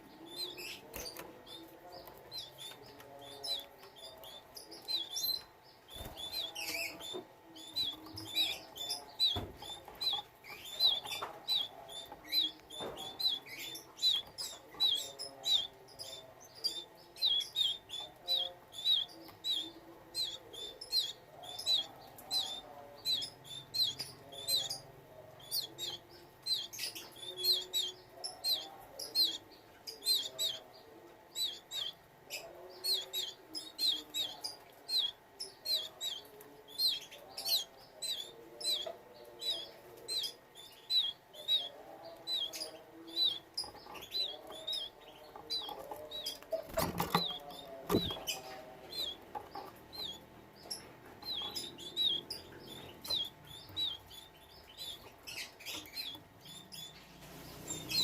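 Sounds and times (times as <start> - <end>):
canaries chirping: 0.0 - 58.0.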